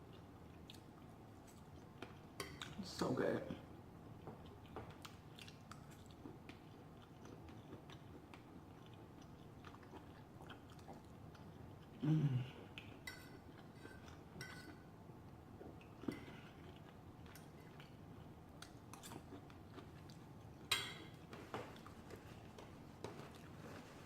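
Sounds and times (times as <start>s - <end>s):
faint chewing: 0.0s - 2.8s, 4.2s - 14.9s, 15.6s - 24.0s.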